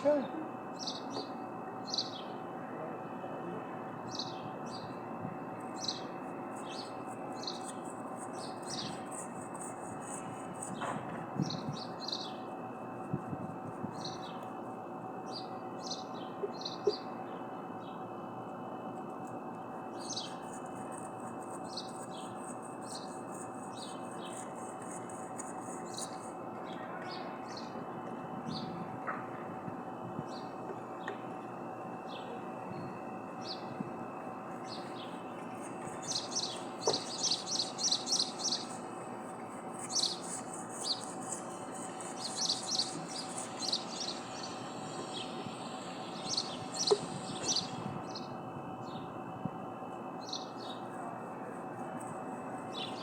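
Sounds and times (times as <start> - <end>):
small birds chirping: 0.0 - 2.4, 4.0 - 12.6, 13.6 - 18.0, 19.2 - 27.8, 29.4 - 49.3, 50.2 - 51.3, 52.0 - 53.0
thin high continuous tone: 0.0 - 10.8, 18.0 - 28.9, 29.8 - 53.0
steady outdoor hiss: 0.0 - 53.0.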